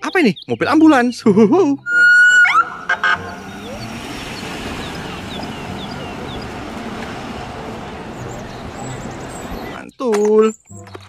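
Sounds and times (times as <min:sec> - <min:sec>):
city street traffic: 0:01.8 - 0:11.0.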